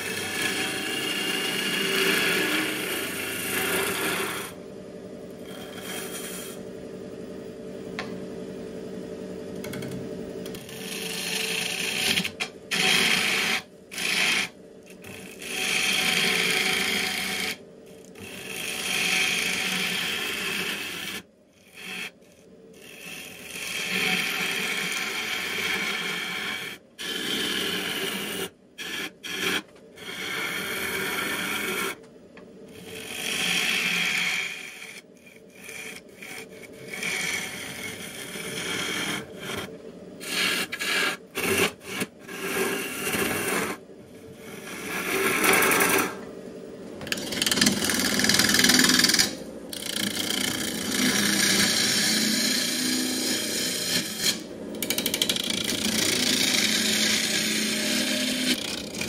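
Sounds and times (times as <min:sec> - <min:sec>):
gouge cutting wood: 0:00.0 - 0:04.5, 0:05.4 - 0:06.6, 0:10.6 - 0:17.6, 0:18.2 - 0:22.2, 0:22.8 - 0:32.0, 0:32.7 - 0:43.8, 0:47.1 - 0:59.0
wood lathe turning: 0:00.0 - 0:04.6, 0:05.4 - 0:06.6, 0:09.6 - 0:32.0, 0:32.7 - 0:46.3, 0:47.0 - 0:59.0.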